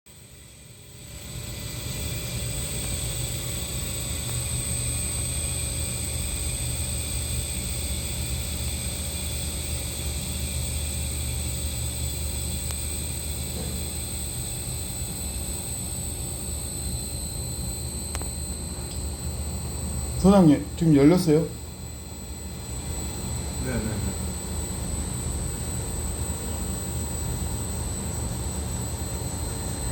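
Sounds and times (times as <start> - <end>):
air conditioner units humming: 0.1 - 29.9
constant high whine: 0.1 - 29.9.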